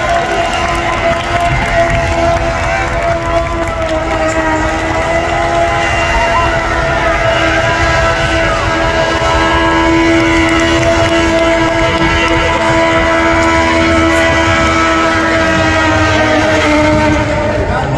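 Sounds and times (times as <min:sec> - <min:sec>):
car engine at high revs: 0:00.0 - 0:17.9
tyres spinning rumble: 0:00.0 - 0:17.9.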